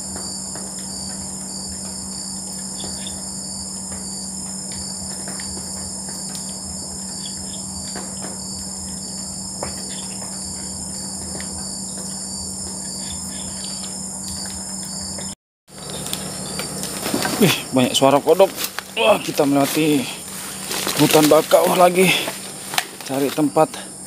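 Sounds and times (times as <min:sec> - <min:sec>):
regular chirping pulse: 0:00.0 - 0:23.8
high-pitched insect trilling: 0:00.0 - 0:24.0
low steady drone: 0:00.0 - 0:24.0.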